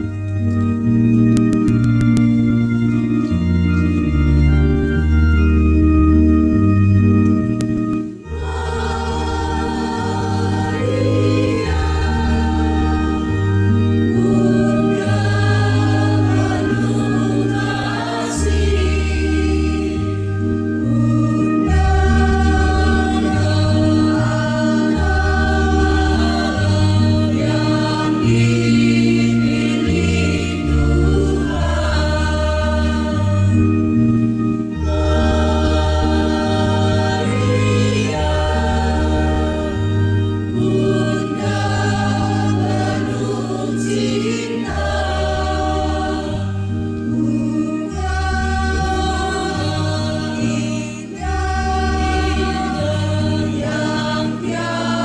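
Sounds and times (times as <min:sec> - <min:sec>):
organ playing: 0:00.0 - 0:55.0
choir singing a hymn: 0:08.1 - 0:55.0.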